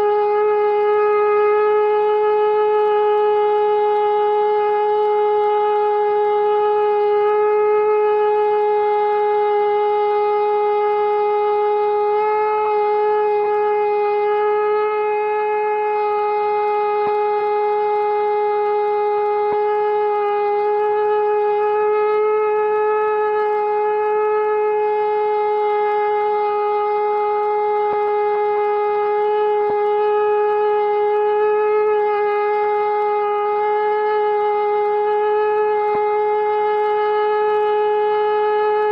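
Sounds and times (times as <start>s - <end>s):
conch shell blown: 0.0s - 38.9s.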